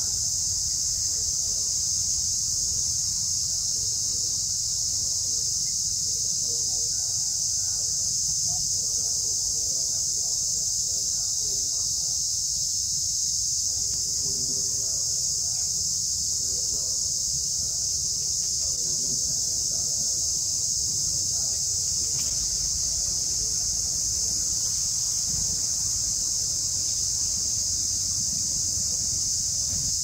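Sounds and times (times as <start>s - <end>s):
faint distant voices: 0.0s - 30.0s
insect chorus drone: 0.0s - 30.0s.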